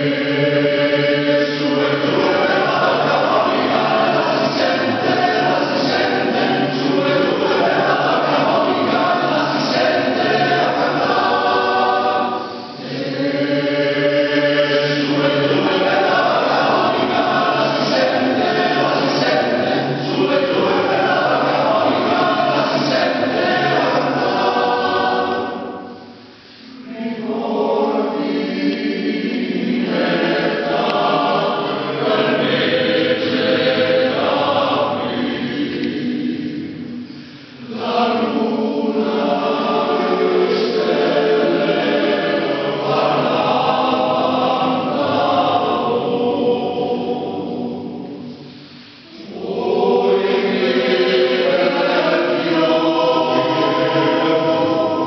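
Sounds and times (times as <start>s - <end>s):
male choir singing: 0.0s - 55.0s.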